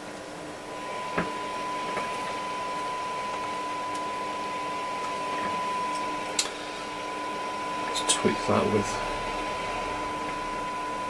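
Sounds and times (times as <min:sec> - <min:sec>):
radio test tone with hiss: 0:00.4 - 0:11.0.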